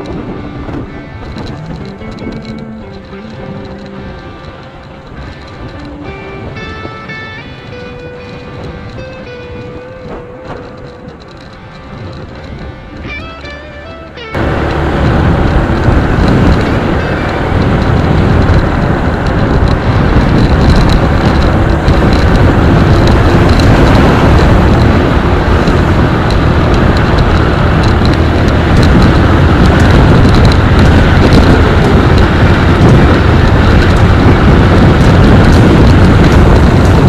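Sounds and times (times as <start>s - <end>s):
motorcycle engine: 0.0s - 37.0s
road noise: 0.0s - 37.0s
wind rushing over microphone: 0.0s - 37.0s.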